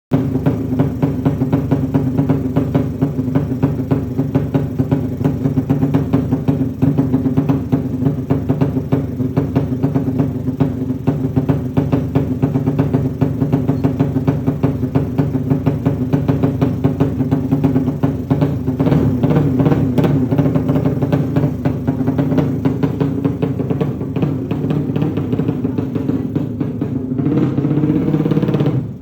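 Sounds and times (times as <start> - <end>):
motorcycle engine idling: 0.1 - 29.0.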